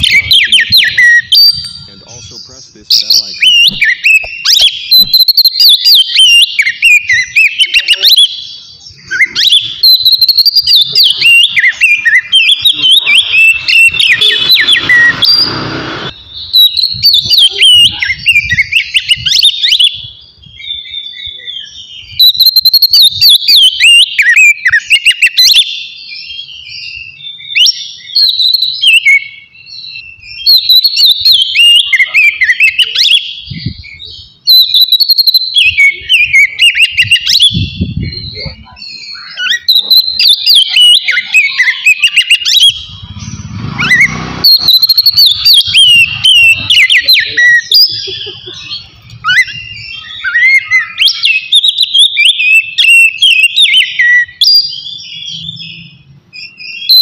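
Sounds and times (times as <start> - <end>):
bird singing whistled phrases: 0.0 - 57.0.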